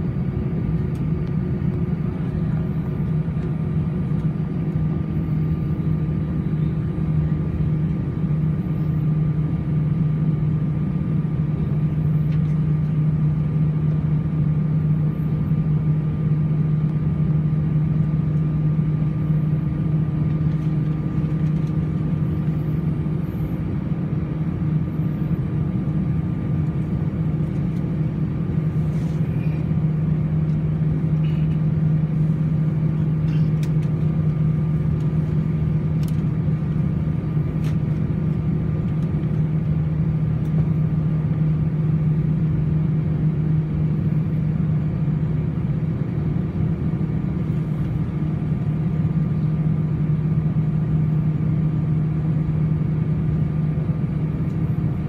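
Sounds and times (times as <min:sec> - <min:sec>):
jet engines droning in cabin: 0:00.0 - 0:55.0.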